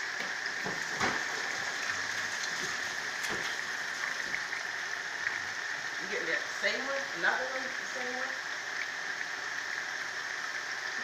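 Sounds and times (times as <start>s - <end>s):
food sizzling in pans: 0.2s - 9.3s.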